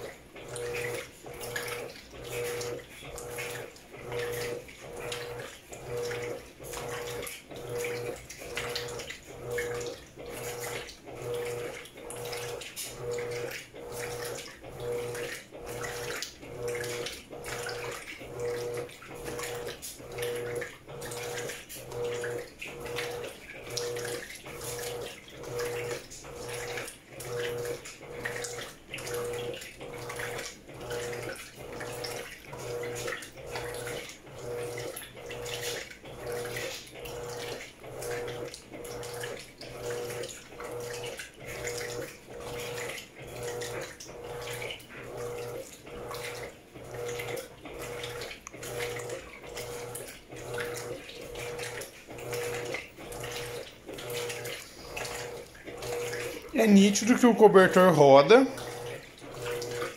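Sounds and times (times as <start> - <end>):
washing machine motor humming: 0.0 - 59.9
water churning and sloshing: 0.0 - 59.9.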